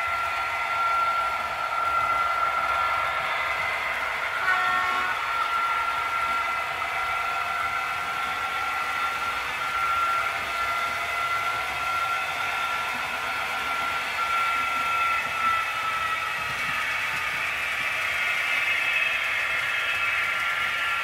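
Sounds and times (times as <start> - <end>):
model train wheels rolling on rails: 0.0 - 21.0.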